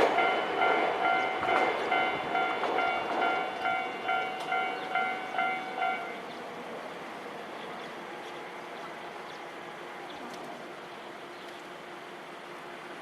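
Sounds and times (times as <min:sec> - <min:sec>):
rumble of passing train: 0:00.0 - 0:13.0.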